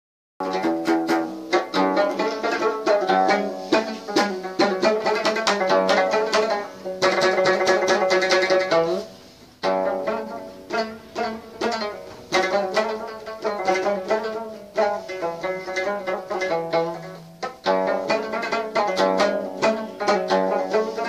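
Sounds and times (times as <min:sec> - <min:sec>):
plucked lute playing: 0:00.4 - 0:21.0.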